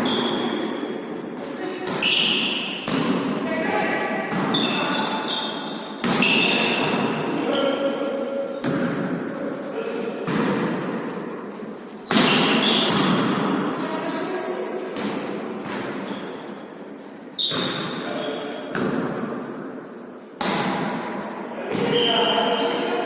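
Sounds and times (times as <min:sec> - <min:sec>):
ball struck and bouncing in hall: 0:00.0 - 0:22.9.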